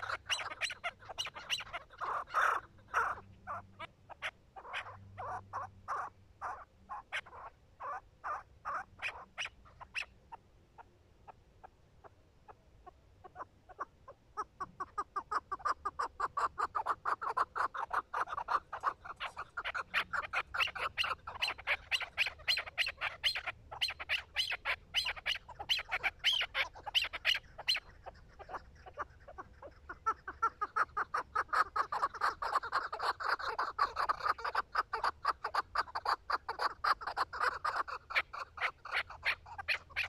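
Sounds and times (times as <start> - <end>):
partridge clucking calls: 0.0 - 40.0.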